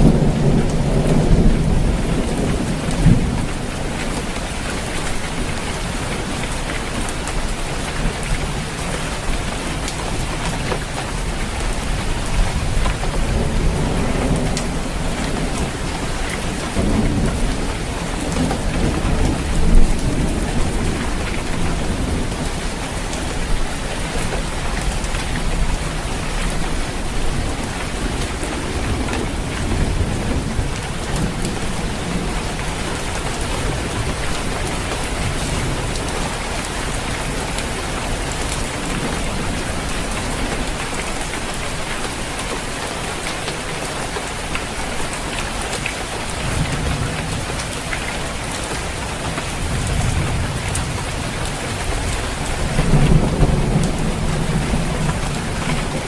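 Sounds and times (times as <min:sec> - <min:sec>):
low rumble of thunder: 0:00.0 - 0:06.4, 0:07.0 - 0:41.9, 0:48.8 - 0:56.0
heavy rain on a roof: 0:00.0 - 0:56.0.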